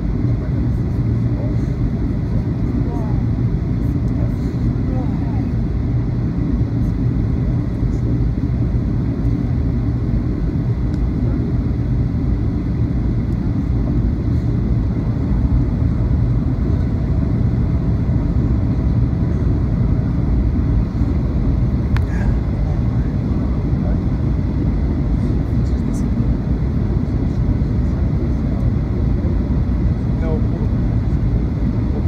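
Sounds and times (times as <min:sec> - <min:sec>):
jet airliner cabin noise: 0:00.0 - 0:32.0.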